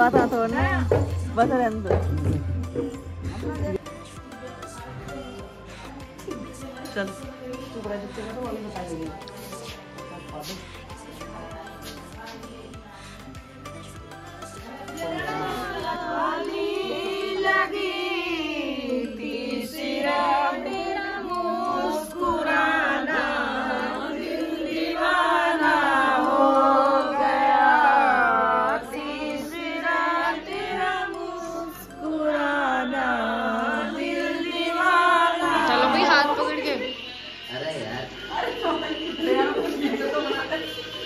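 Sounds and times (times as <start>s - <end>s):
music: 0.0s - 41.0s.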